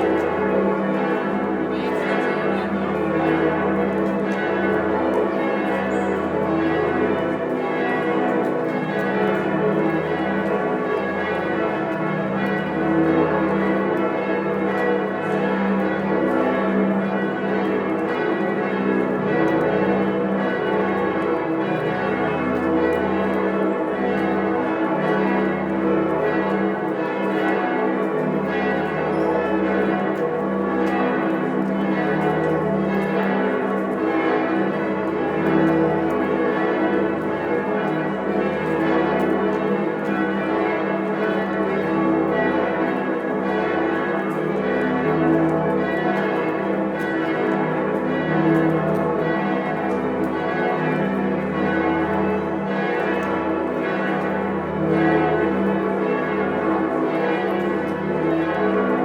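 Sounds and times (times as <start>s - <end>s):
church bells ringing in a peal: 0.0s - 59.0s.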